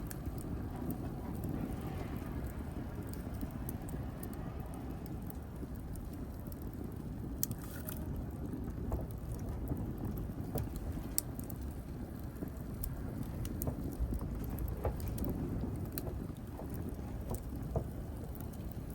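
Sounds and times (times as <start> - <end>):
wood fire crackling: 0.0 - 18.9.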